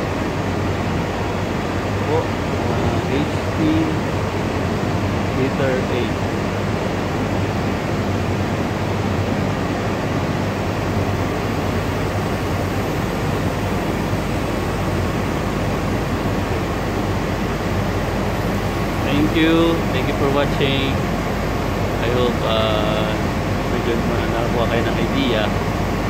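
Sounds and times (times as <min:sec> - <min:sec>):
low hum: 0:00.0 - 0:26.0
running plant machinery: 0:00.0 - 0:26.0.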